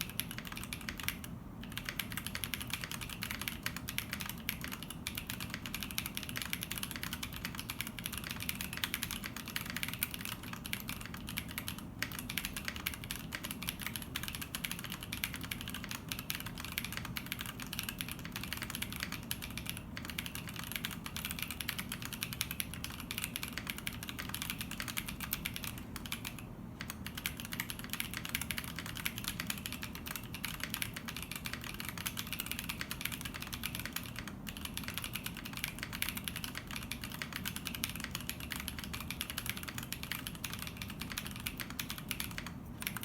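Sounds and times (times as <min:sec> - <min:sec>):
fast mechanical keyboard typing: 0:00.0 - 0:43.0.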